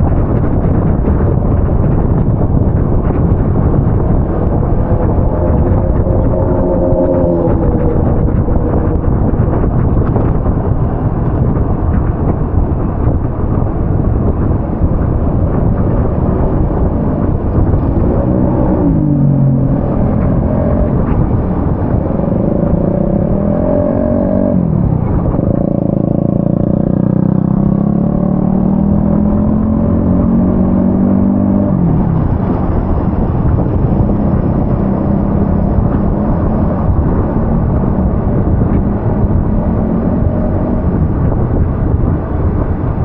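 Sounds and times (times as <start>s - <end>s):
vehicle engine shifting gears: 0.0s - 43.0s.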